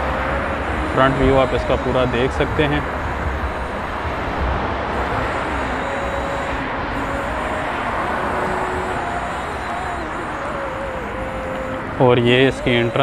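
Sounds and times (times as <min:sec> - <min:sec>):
road traffic hiss and rumble: 0:00.0 - 0:13.0.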